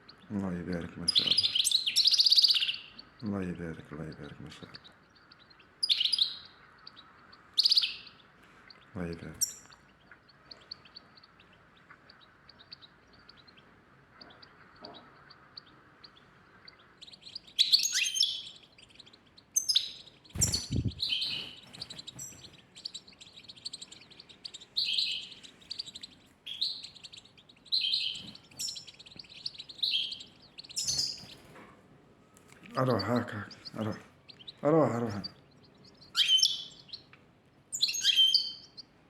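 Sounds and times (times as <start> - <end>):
pet birds chirping: 0.0 - 39.0.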